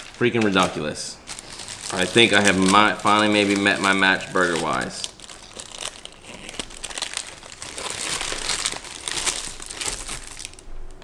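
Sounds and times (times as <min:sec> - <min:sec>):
paper wrapper crinkling: 0:00.0 - 0:11.0.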